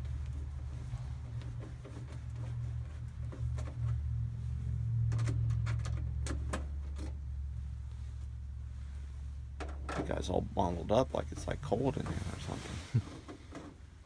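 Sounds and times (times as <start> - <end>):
low hum: 0.0 - 13.2.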